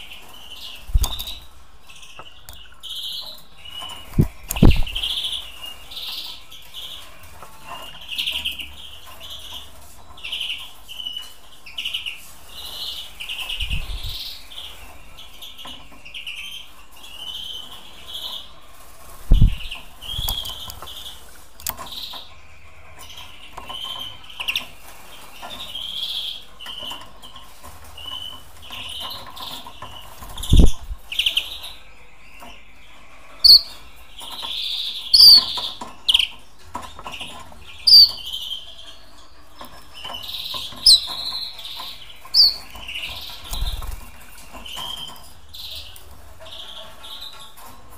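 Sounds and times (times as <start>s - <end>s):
finches chirping: 0.0s - 18.6s, 19.2s - 47.7s.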